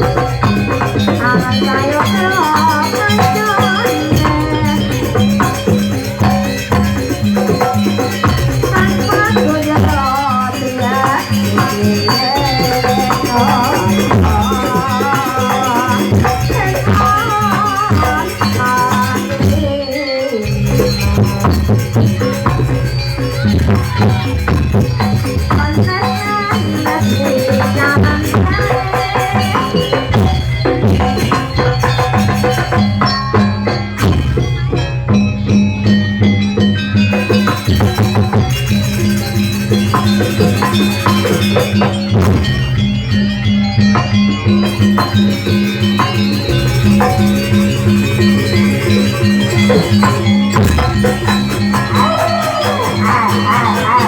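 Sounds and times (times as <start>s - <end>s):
rattling jingle: 0.0s - 54.0s
wavering melodic line: 0.0s - 54.0s.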